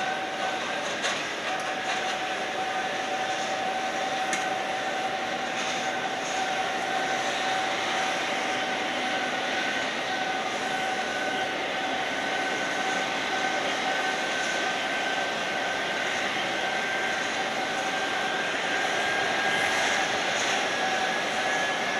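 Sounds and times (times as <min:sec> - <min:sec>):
jet engine whine: 0:00.0 - 0:21.9.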